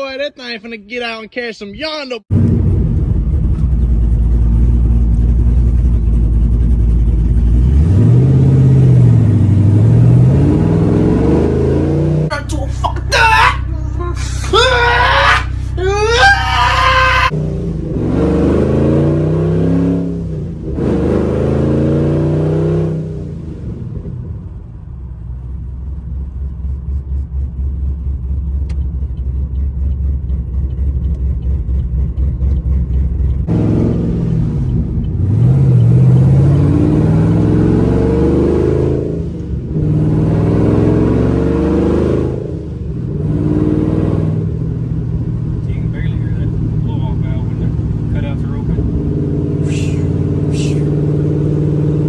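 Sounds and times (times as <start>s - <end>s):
car engine accelerating: 2.3s - 52.0s.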